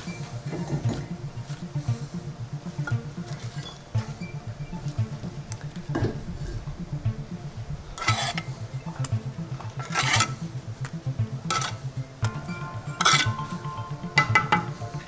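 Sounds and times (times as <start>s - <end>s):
trowel scraping on mortar and brick: 0.0s - 6.7s, 7.9s - 15.0s.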